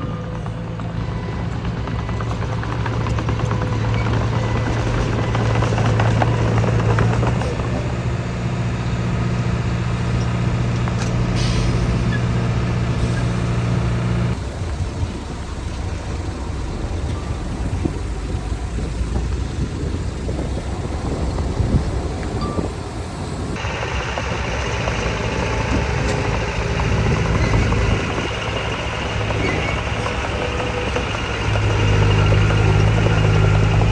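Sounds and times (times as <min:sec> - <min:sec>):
diesel engine hum: 0:00.0 - 0:33.9
rough mechanical rumble: 0:00.0 - 0:33.9.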